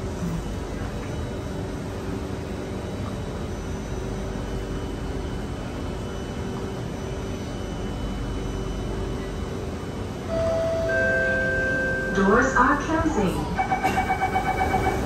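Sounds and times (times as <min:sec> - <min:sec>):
stationary train hum: 0:00.0 - 0:15.0
faint steady tones: 0:02.8 - 0:15.0.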